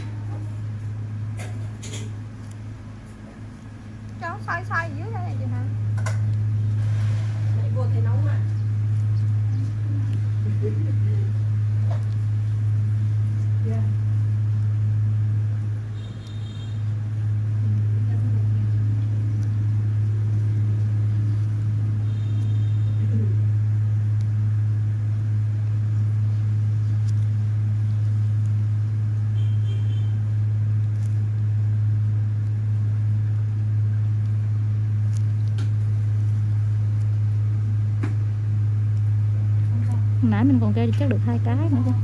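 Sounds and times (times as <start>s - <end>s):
loud steady low hum: 0.0s - 42.0s.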